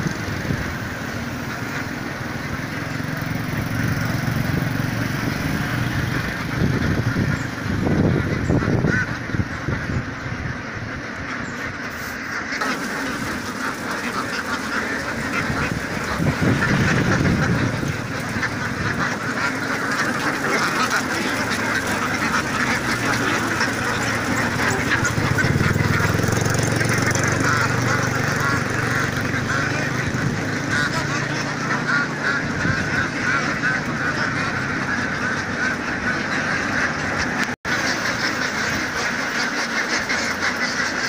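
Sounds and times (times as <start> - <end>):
ducks quacking in chorus: 0.0 - 41.0.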